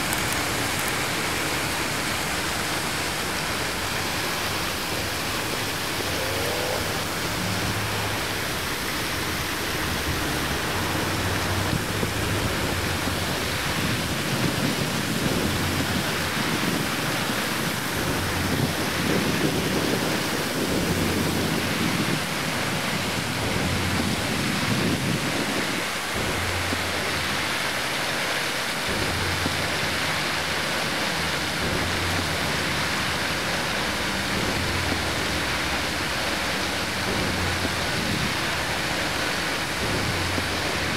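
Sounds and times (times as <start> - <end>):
fountain water splashing: 0.0 - 40.9.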